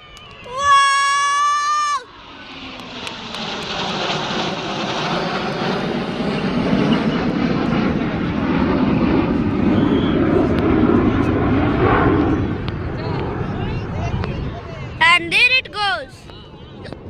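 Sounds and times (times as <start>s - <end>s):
jets passing overhead: 0.1s - 17.0s.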